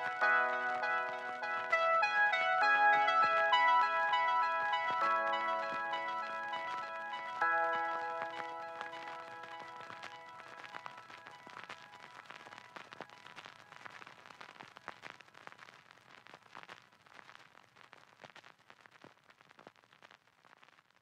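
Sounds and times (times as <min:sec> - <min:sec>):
faint irregular crackling and popping: 0:00.0 - 0:21.0.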